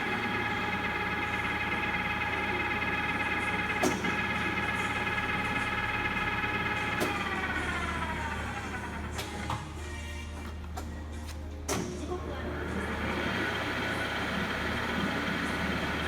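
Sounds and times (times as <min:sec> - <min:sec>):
lathe headstock whining: 0:00.0 - 0:09.4, 0:12.5 - 0:16.0.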